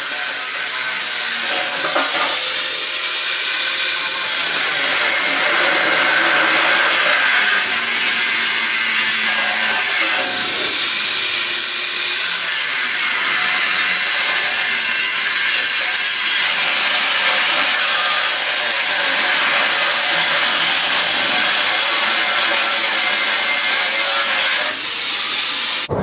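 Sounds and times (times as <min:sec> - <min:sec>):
power tool grinding metal: 0:00.0 - 0:26.0.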